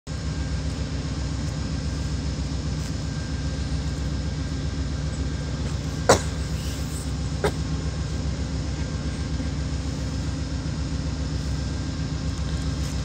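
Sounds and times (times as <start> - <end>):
distant diesel locomotive idling: 0.1 - 13.0.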